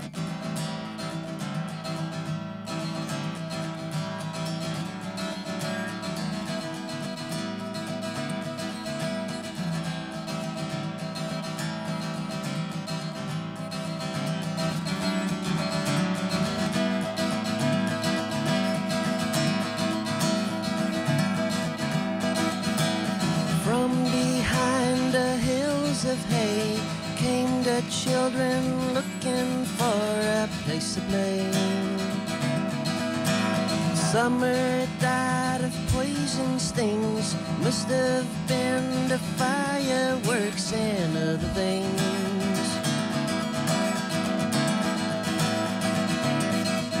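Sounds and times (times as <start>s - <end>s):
acoustic guitar playing: 0.0s - 47.0s.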